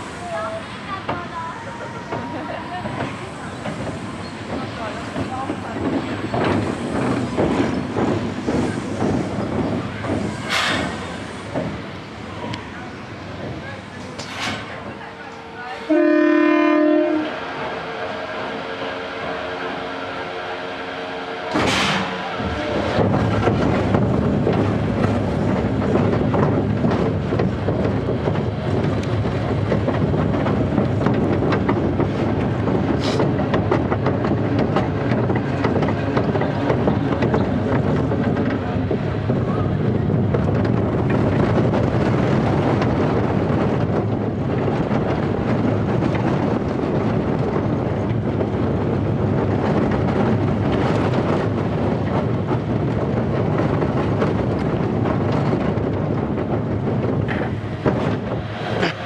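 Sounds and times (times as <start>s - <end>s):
wind buffeting microphone: 0.0s - 15.0s, 22.3s - 59.0s
roller coaster wheels rumbling on track: 0.0s - 59.0s.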